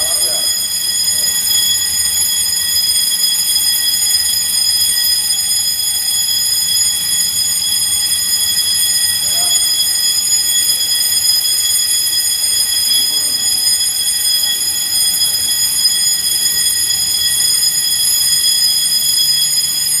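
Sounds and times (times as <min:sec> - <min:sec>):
alarm sounder high-pitched tone: 0:00.0 - 0:20.0.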